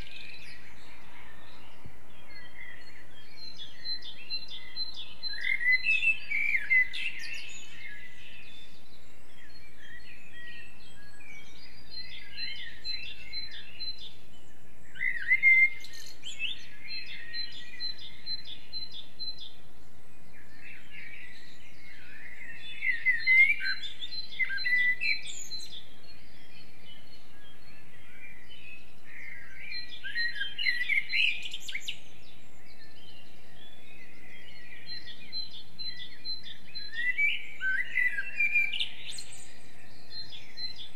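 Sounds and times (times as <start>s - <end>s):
songbird warbling song: 0.0s - 40.9s.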